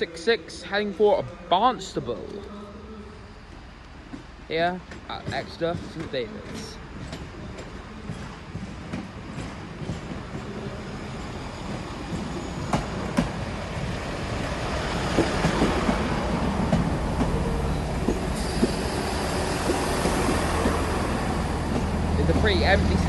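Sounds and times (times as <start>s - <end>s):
diesel train running: 0.0s - 23.0s
wheels clicking over rail joints: 3.5s - 23.0s.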